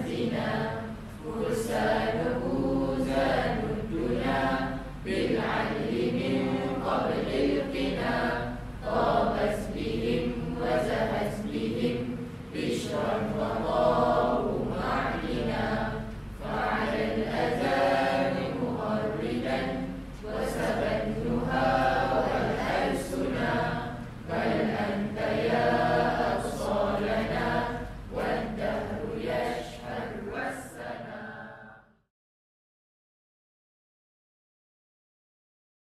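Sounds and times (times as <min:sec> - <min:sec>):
group singing chant-like melody: 0:00.0 - 0:32.1.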